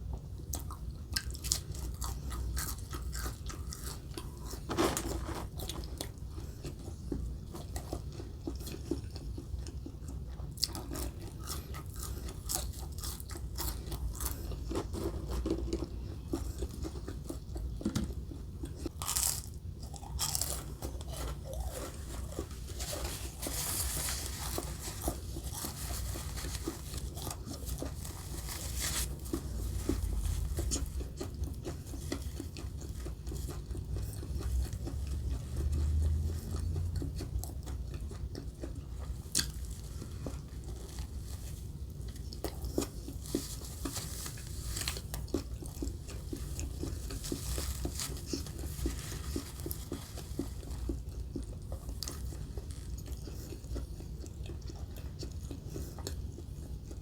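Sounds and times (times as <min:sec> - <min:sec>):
person crunching and chewing food: 0:00.0 - 0:57.0.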